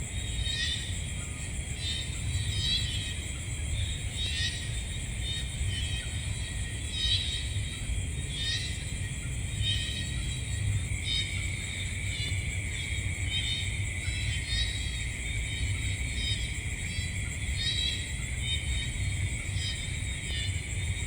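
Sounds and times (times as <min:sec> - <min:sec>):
insects buzzing and trilling: 0:00.0 - 0:21.0.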